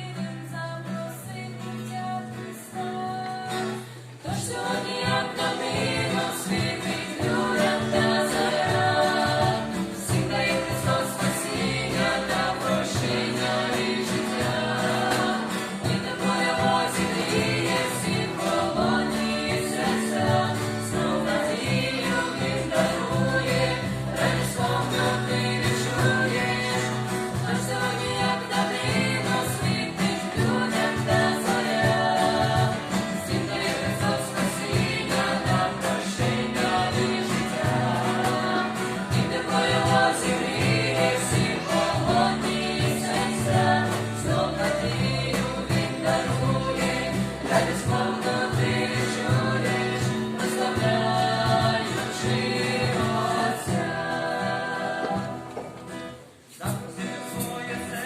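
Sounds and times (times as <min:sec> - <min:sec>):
vocal group singing in chorus: 0:00.0 - 0:58.0
instrumental backing with bass line: 0:04.5 - 0:56.9.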